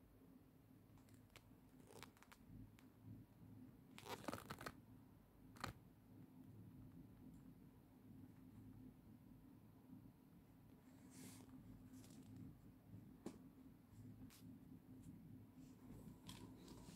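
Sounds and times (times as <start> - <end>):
faint low hum: 0.0 - 16.9.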